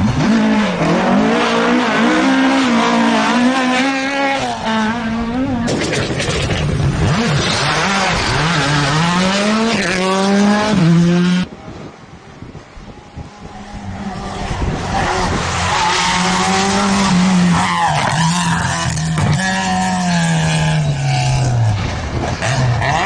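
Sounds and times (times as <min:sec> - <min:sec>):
rally car engine revving: 0:00.0 - 0:11.6, 0:13.1 - 0:23.0.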